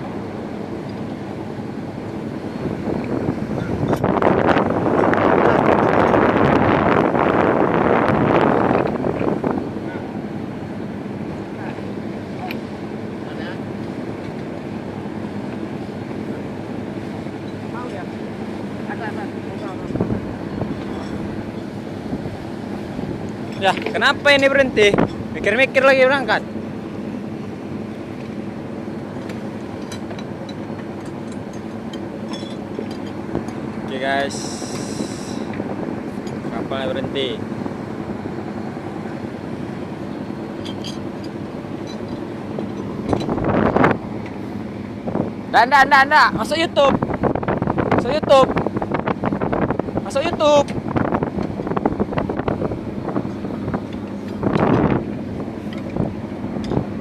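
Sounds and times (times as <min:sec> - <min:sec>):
boat engine running: 0:00.0 - 0:57.0
rush of wind or water: 0:00.0 - 0:57.0
wind buffeting microphone: 0:01.8 - 0:11.5, 0:13.9 - 0:28.2, 0:29.0 - 0:57.0.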